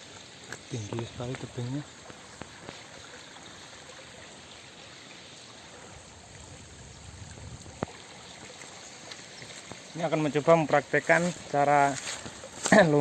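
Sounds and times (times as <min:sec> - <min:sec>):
stream flowing over rocks: 0:00.0 - 0:13.0.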